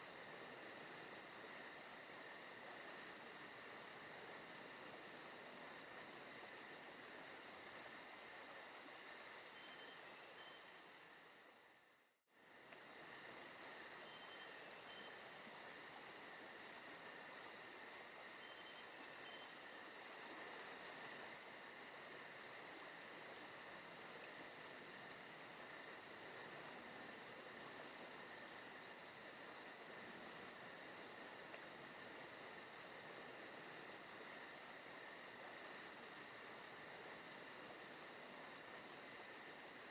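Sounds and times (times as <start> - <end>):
crickets and insects trilling: 0.0 - 11.8, 12.4 - 39.9.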